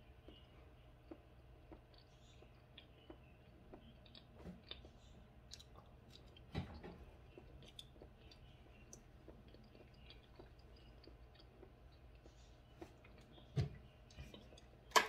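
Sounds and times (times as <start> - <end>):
faint chewing: 0.0 - 14.9.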